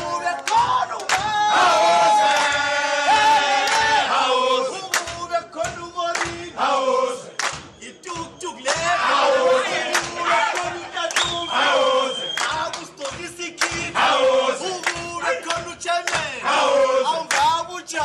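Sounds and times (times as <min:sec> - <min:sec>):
men singing unaccompanied: 0:00.0 - 0:18.0.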